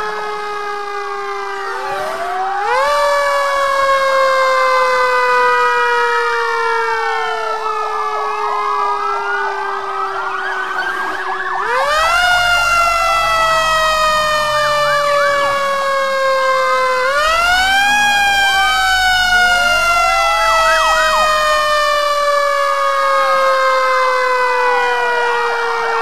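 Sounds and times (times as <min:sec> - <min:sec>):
fire engine siren wailing: 0:00.0 - 0:26.0.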